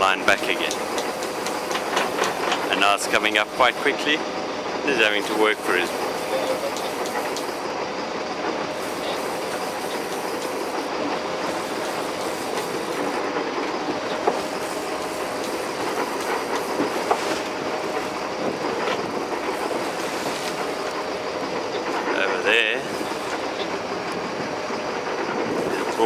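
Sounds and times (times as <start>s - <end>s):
boat engine hum: 0.0s - 26.0s
wind: 0.0s - 26.0s.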